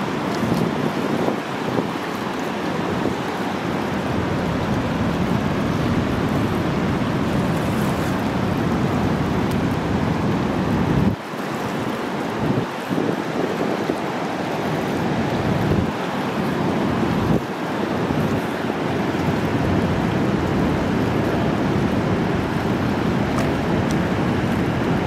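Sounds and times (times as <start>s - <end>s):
whitewater rapids rushing: 0.0s - 25.0s
wind buffeting microphone: 0.0s - 25.0s.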